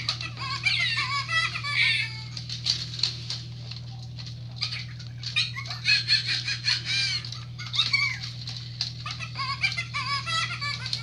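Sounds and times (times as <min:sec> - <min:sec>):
toy electronic squeaks and babble: 0:00.0 - 0:02.4, 0:04.6 - 0:11.0
steady low hum: 0:00.0 - 0:11.0.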